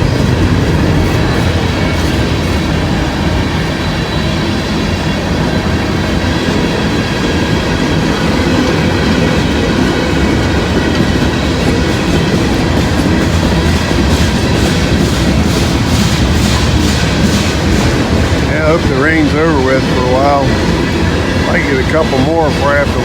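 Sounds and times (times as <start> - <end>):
freight train wheels rumbling on rails: 0.0 - 23.0
wheels clickety-clack over rail joints: 0.0 - 23.0.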